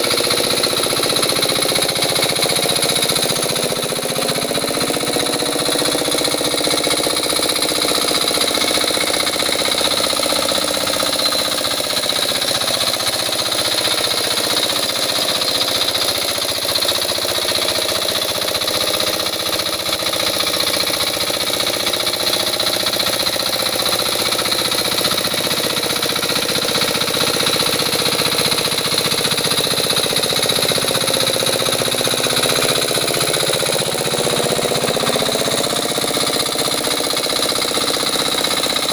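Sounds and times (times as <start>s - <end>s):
hand tractor engine running: 0.0s - 38.9s
wheels churning through water: 0.0s - 38.9s.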